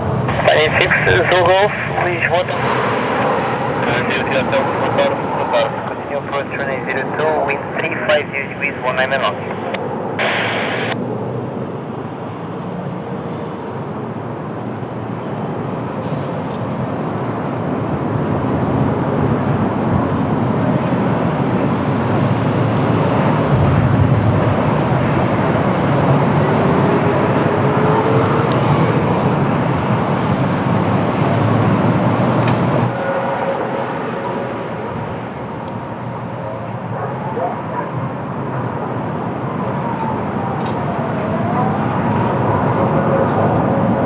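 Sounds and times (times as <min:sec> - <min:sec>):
strong wind: 0:00.0 - 0:08.7, 0:09.4 - 0:44.0
jet airliner engine noise: 0:00.0 - 0:44.0.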